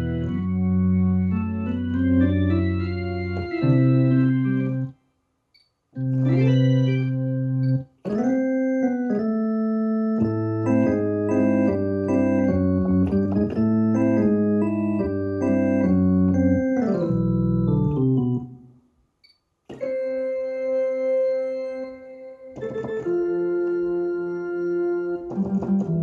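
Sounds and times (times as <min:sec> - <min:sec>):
keyboard playing organ chords: 0:00.0 - 0:05.0, 0:06.0 - 0:18.8, 0:19.7 - 0:26.0.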